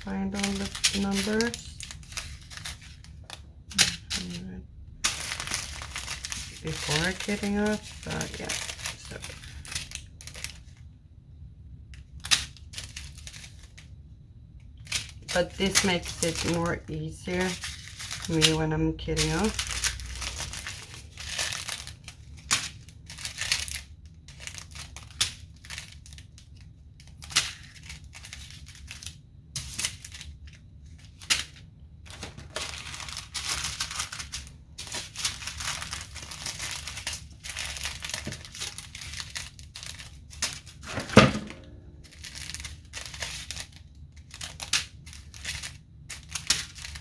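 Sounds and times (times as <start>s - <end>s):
plastic bags rustling: 0.0s - 10.9s, 12.0s - 13.9s, 14.8s - 47.0s.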